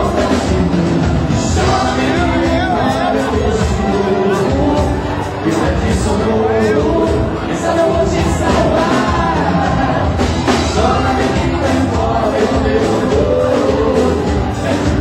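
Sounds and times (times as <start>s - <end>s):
live band playing: 0.0s - 15.0s
woman singing lead: 0.0s - 15.0s.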